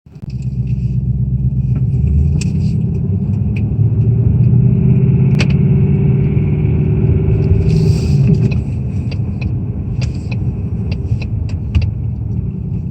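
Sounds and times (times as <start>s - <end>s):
car engine rumbling: 0.0s - 12.9s.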